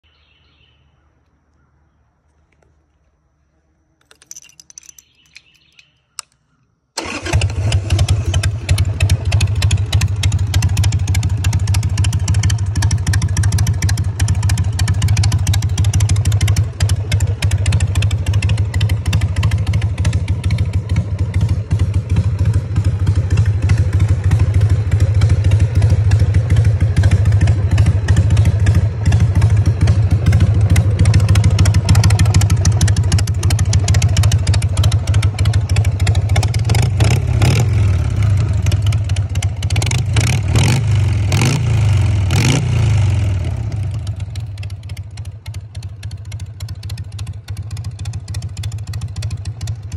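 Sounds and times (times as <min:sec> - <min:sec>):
motorcycle engine starting and idling: 0:07.0 - 0:49.9.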